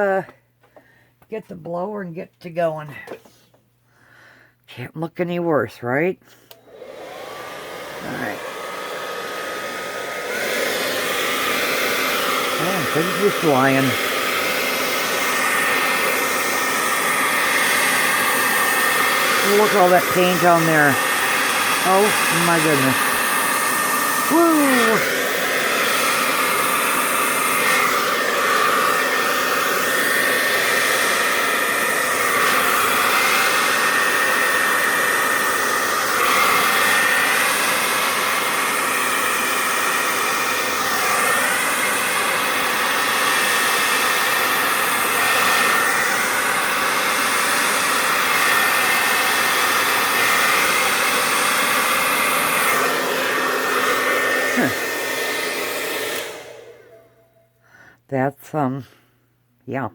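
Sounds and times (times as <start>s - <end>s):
hair dryer running: 6.5s - 57.2s.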